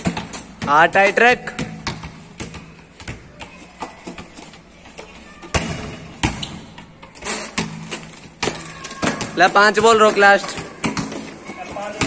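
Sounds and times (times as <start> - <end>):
rubber balls thudding on concrete: 0.0 - 12.0.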